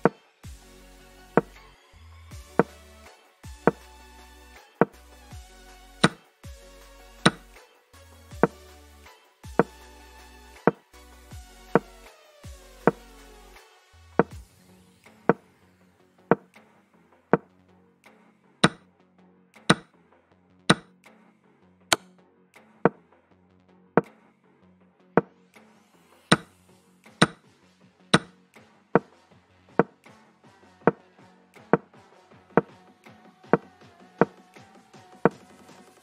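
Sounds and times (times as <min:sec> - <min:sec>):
soft background music: 0:00.0 - 0:36.0.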